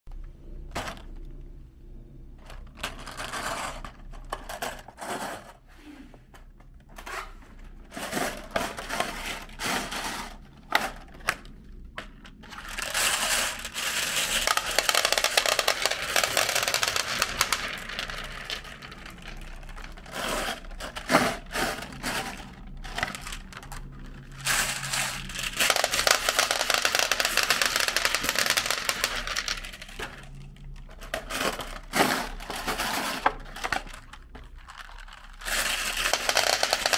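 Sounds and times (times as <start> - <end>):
plastic boxes crinkling: 6.9 - 36.9.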